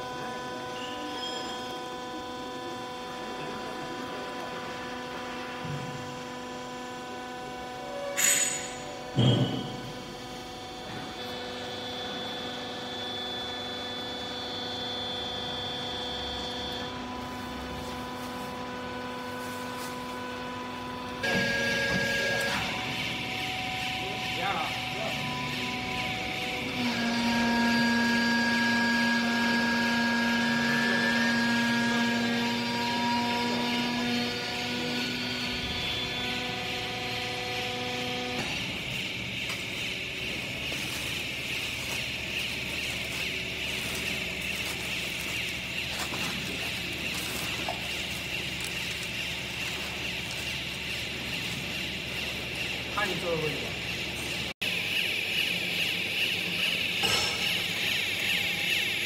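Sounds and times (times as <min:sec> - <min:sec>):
electric motor and pump hum: 0:00.0 - 0:59.0.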